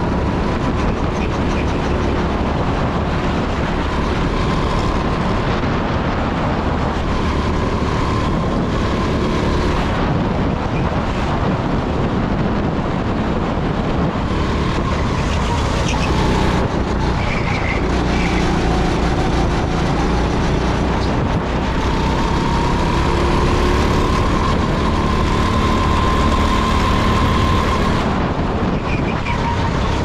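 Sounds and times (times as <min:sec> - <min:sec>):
go-kart engine running hard: 0:00.0 - 0:30.0.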